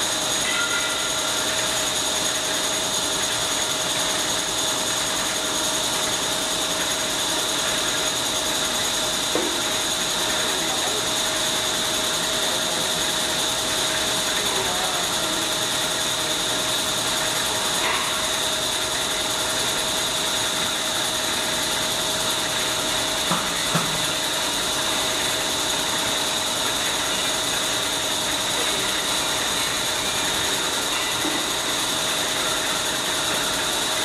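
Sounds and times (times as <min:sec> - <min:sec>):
machine whirring with high whine: 0:00.0 - 0:34.0.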